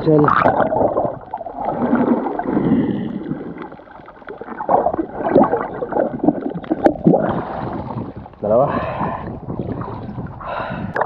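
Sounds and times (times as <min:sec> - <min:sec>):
muffled underwater gurgling: 0:00.0 - 0:11.0.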